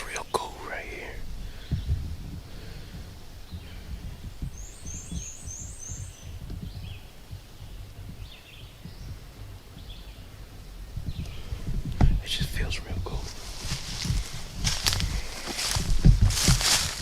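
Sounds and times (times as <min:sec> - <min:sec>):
low uneven rumble: 0:00.0 - 0:17.0
songbirds calling: 0:00.0 - 0:17.0.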